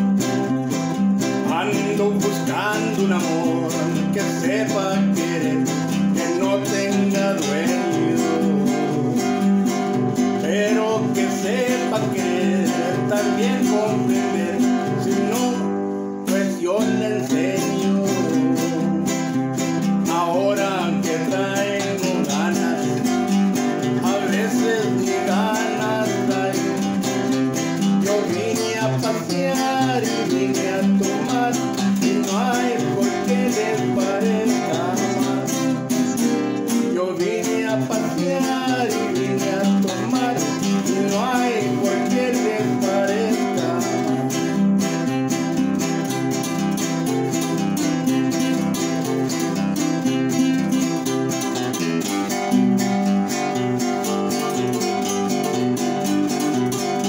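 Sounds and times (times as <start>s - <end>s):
man singing: 0.0s - 52.4s, 53.0s - 57.0s
classical guitars strumming: 0.0s - 57.0s.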